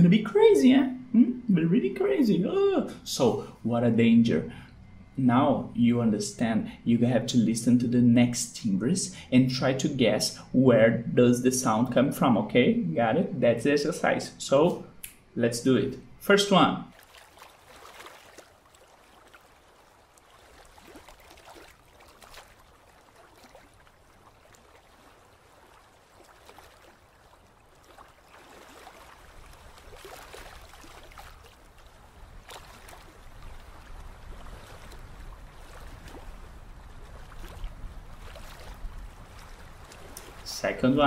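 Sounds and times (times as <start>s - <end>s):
faint moving water: 0.0s - 41.0s.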